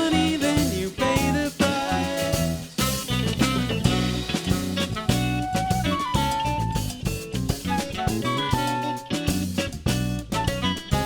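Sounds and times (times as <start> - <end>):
drum kit beat: 0.0 - 11.0
live band playing: 0.0 - 11.0.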